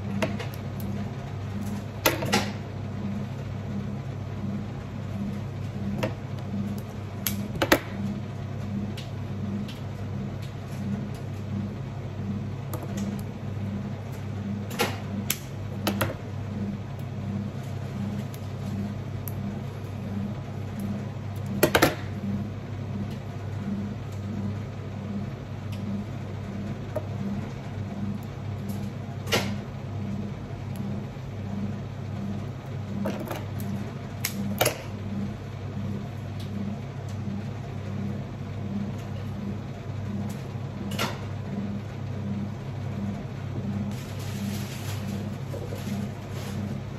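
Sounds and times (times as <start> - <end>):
machine humming: 0.0 - 46.9.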